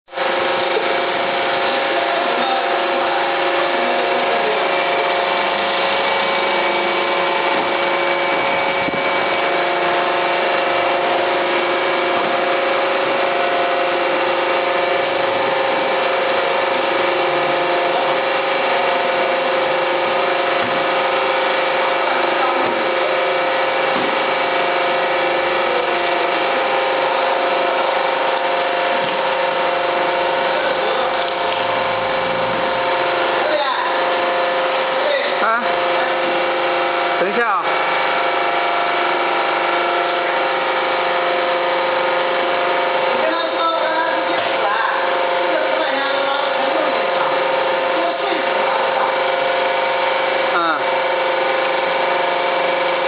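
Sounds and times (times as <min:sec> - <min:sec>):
hydraulic unit whine: 0:00.0 - 0:53.0
constant mechanical noise: 0:00.1 - 0:53.0.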